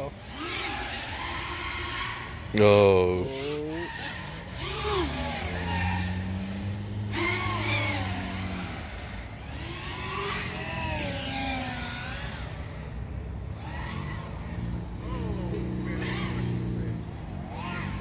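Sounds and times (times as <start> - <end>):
quadcopter propellers whining: 0.0 - 18.0.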